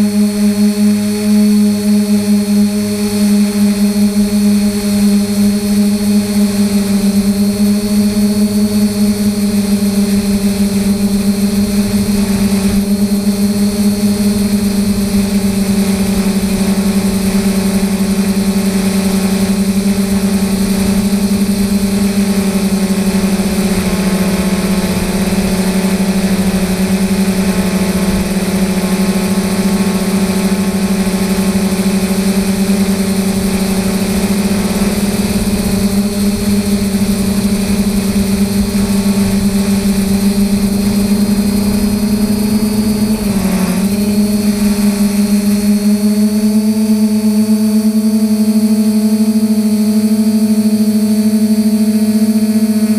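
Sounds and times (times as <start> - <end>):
drone motors humming: 0.0 - 52.9
low rumbling noise: 4.2 - 47.1.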